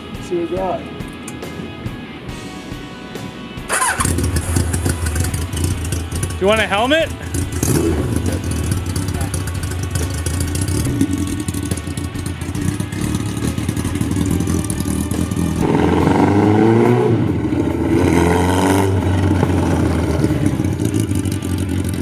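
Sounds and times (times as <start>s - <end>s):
motorcycle engine revving: 0.7s - 22.0s.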